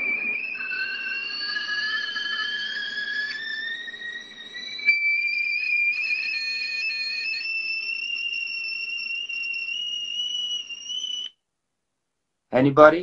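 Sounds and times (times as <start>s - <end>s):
kettle whistling: 0.0s - 11.4s.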